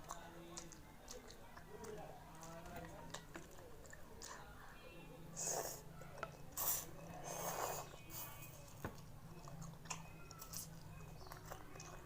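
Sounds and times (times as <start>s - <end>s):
person chewing: 0.0s - 4.4s, 5.4s - 12.0s.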